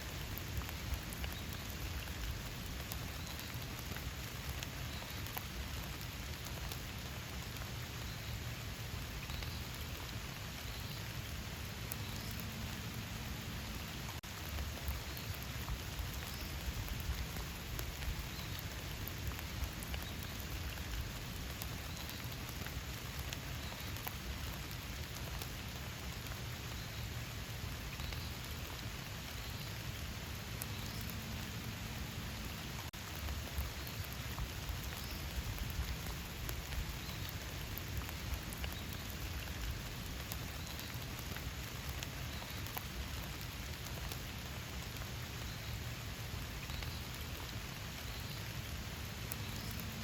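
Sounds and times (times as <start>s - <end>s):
rain on leaves: 0.0s - 50.0s.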